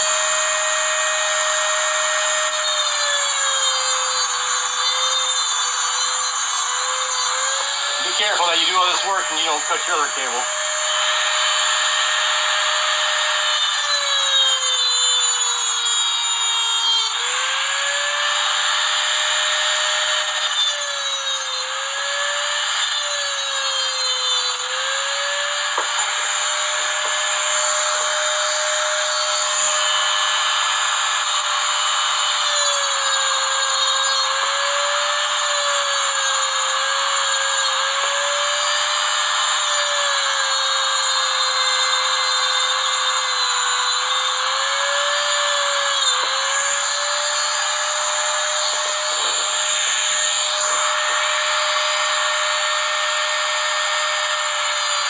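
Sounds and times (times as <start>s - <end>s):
rotary tool grinding steel cable: 0.0s - 55.0s.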